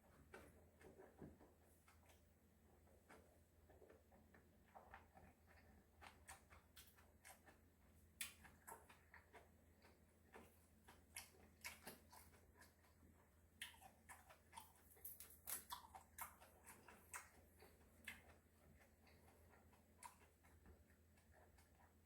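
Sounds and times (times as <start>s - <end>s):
chewing and mouth noises: 0.0s - 22.0s.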